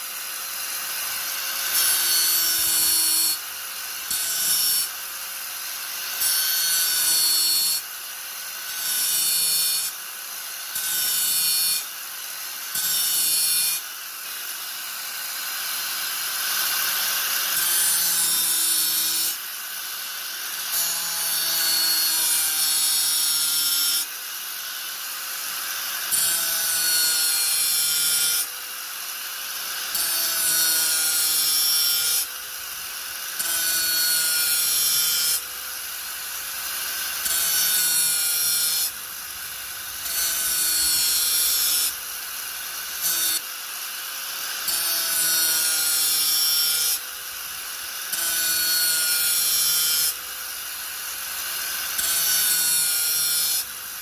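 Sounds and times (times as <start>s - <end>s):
angle grinder grinding: 0.0s - 8.0s, 8.6s - 54.0s.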